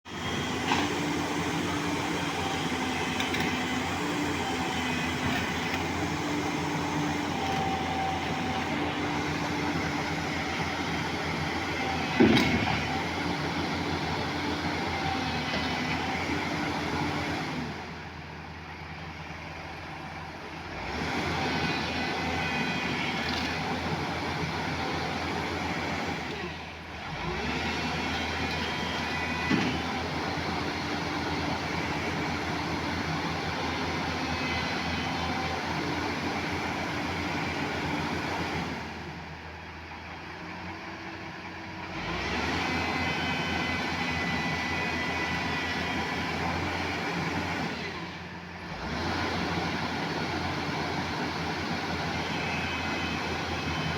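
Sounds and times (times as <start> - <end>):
excavator diesel engine: 0.1 - 53.9.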